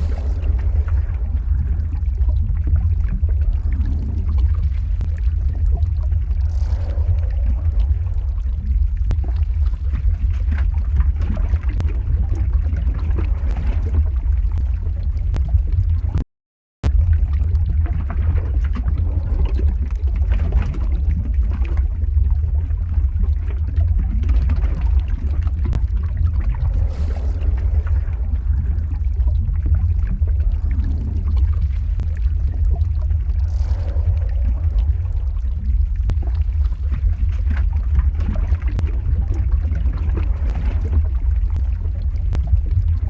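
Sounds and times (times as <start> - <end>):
deep rumble: 0.0 - 16.2, 16.8 - 43.0
lava crackling and bubbling: 0.0 - 16.2, 16.8 - 43.0.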